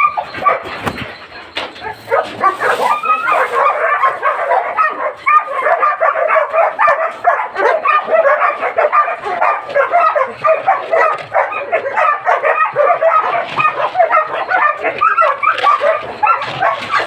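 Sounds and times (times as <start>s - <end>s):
dogs barking and yelping: 0.0s - 17.0s.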